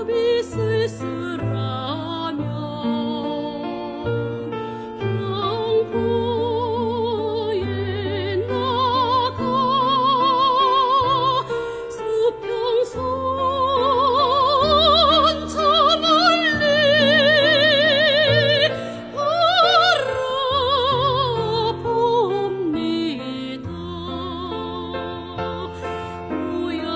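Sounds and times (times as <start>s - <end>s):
soprano singing operatically: 0.0s - 26.9s.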